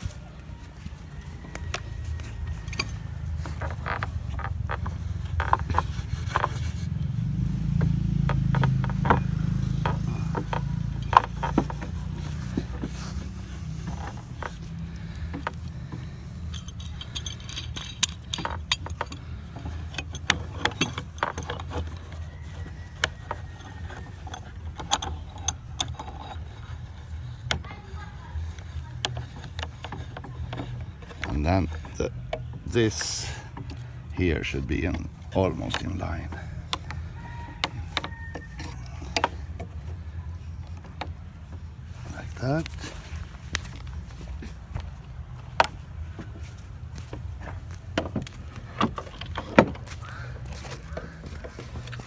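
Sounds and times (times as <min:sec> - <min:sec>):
low steady rumble: 0:00.0 - 0:52.0
metal clamps clanking: 0:01.4 - 0:46.5, 0:47.1 - 0:52.0.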